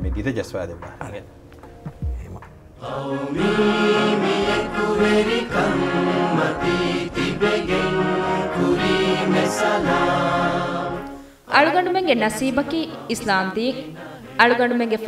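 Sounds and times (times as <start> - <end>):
instrumental accompaniment: 0.0 - 15.0
choir singing long notes: 2.8 - 15.0.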